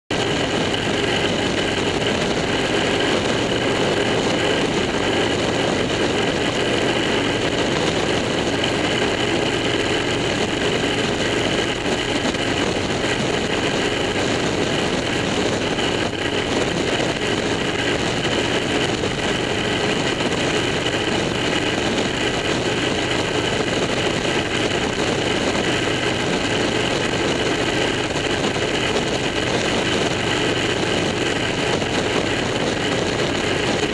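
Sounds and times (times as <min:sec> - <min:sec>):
car engine cruising: 0:00.1 - 0:33.9
road and tyre noise: 0:00.1 - 0:33.9.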